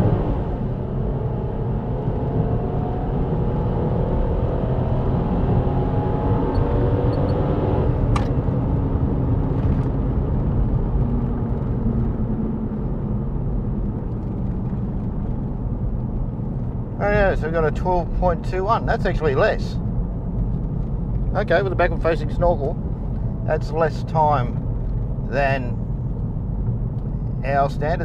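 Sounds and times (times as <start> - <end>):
car engine at full throttle: 0.0 - 28.0
road noise: 0.0 - 28.0.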